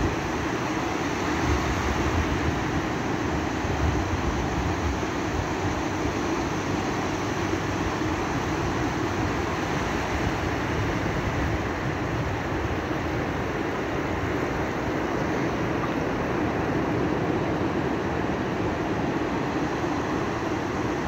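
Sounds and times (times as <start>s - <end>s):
surf washing on beach: 0.0s - 21.0s.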